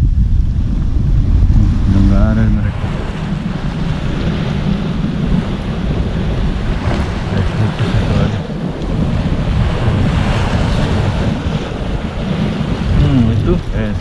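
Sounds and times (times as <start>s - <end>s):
wind buffeting microphone: 0.0s - 14.0s
small waves lapping: 0.6s - 14.0s.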